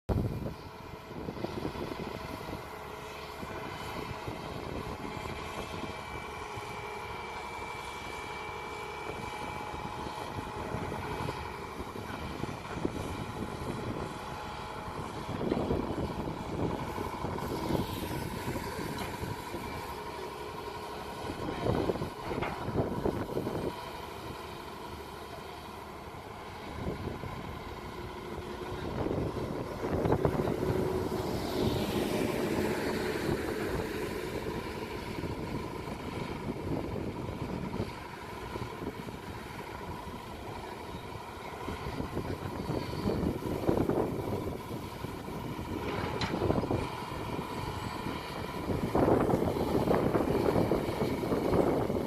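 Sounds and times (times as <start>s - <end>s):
excavator diesel engine under load: 0.1s - 52.0s
steady whine: 0.1s - 52.0s.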